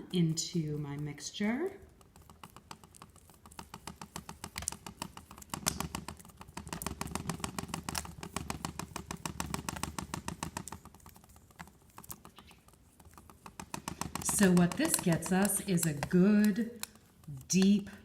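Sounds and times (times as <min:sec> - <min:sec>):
paint mixing clicks and scrapes: 0:00.0 - 0:18.0.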